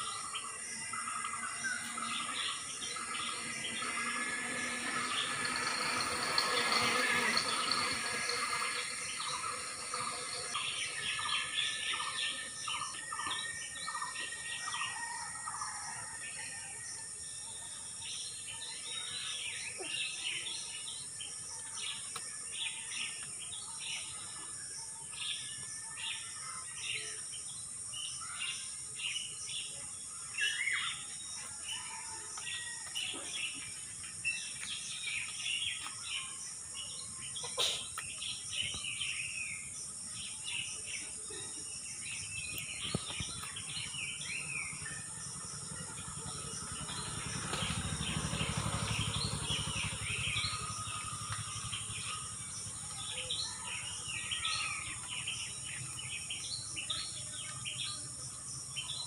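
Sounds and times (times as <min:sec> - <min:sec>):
small birds chirping: 0:00.0 - 0:15.2, 0:17.5 - 0:59.0.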